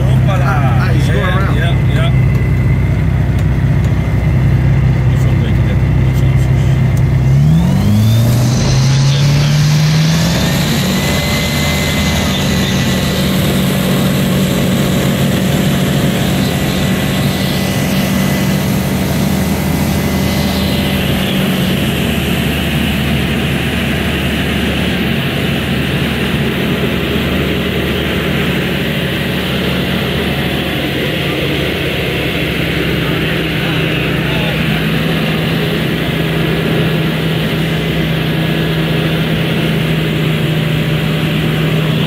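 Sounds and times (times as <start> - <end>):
aircraft engine and propeller drone: 0.0 - 42.0.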